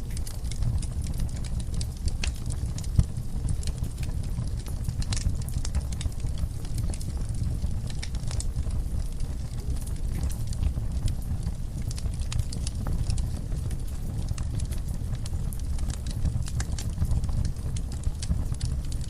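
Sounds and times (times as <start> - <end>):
logs crackling and popping: 0.0 - 19.0
low rumble of flame: 0.0 - 19.0.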